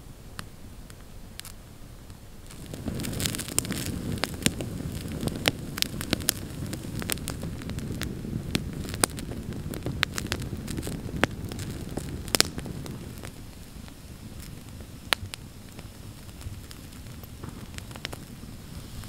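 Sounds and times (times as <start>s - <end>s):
fire crackling and popping: 0.3s - 19.0s
campfire flames rushing: 0.9s - 19.0s.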